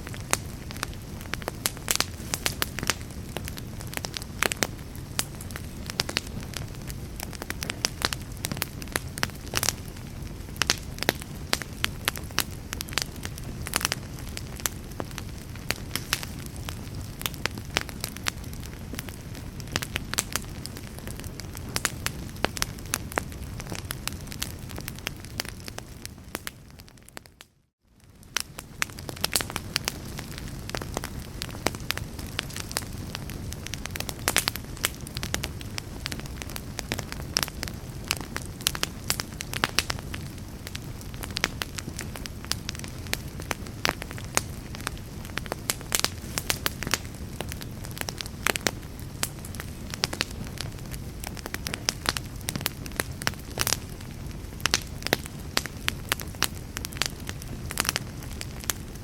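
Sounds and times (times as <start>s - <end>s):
sharp pops from fire: 0.0s - 27.4s, 28.0s - 59.0s
log fire crackling: 0.0s - 59.0s
low rumble of flames: 0.0s - 59.0s.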